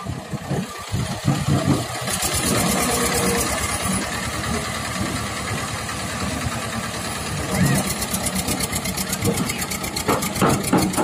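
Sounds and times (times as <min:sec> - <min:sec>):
tractor diesel engine chugging: 0:00.0 - 0:11.0.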